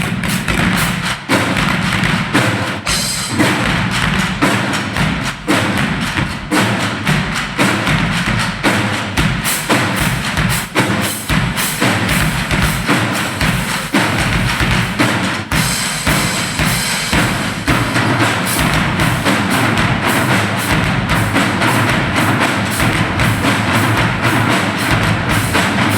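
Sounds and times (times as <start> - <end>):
drum percussion music: 0.0 - 25.9.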